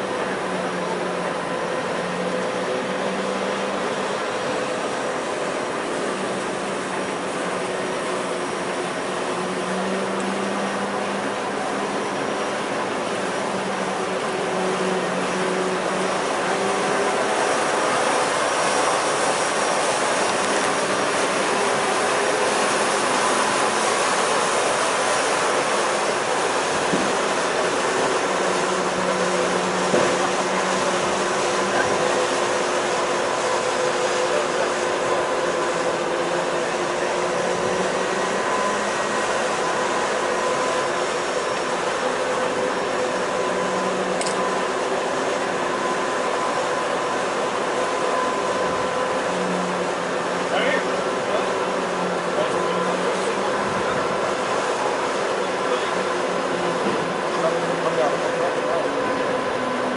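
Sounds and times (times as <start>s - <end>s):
diesel locomotive idling: 0.0s - 59.9s.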